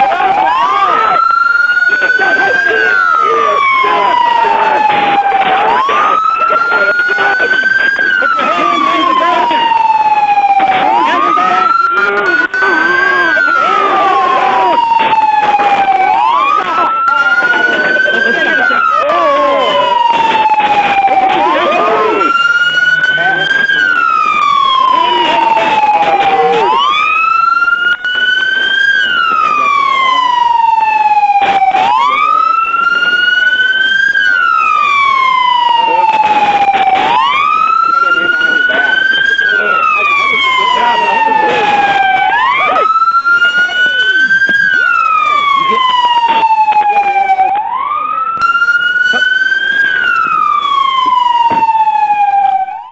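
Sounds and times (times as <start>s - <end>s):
police siren wailing: 0.0s - 52.9s.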